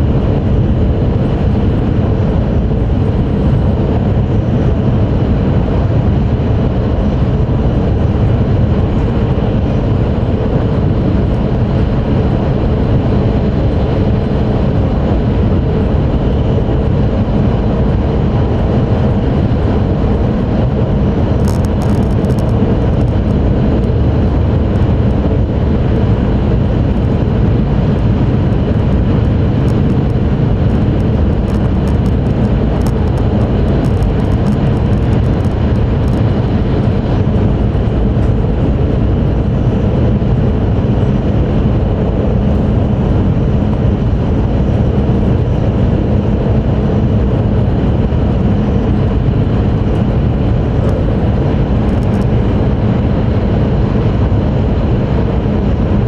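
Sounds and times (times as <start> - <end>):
train cabin rumble and rushing: 0.0 - 56.0.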